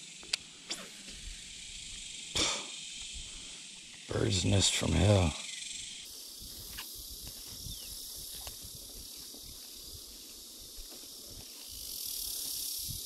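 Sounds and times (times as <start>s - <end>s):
high outdoor hiss: 0.0s - 13.0s.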